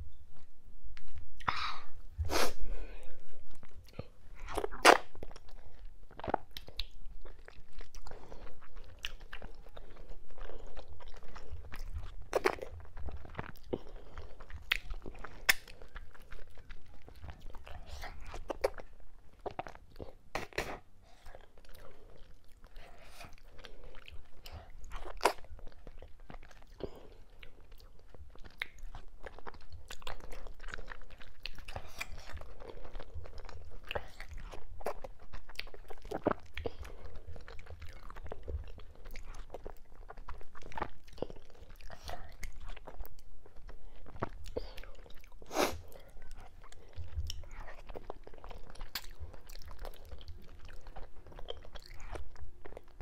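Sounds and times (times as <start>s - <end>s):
wet chewing and mouth smacks: 3.4s - 53.0s.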